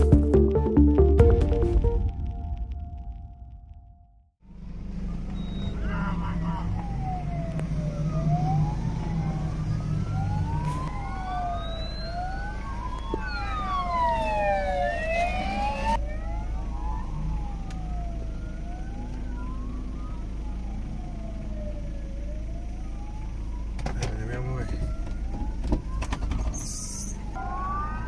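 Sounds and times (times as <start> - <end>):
sirens wailing: 4.9 - 28.0.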